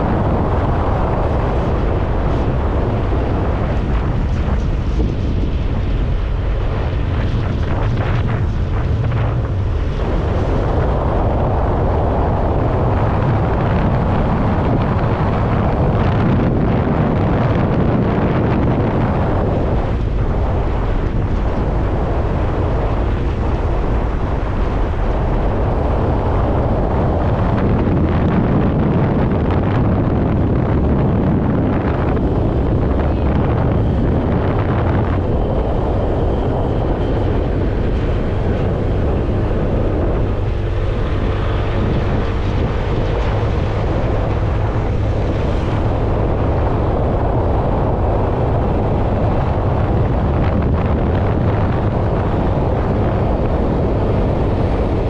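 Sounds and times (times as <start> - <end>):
motorcycle running: 0.0 - 55.0
wind noise on microphone: 0.0 - 55.0.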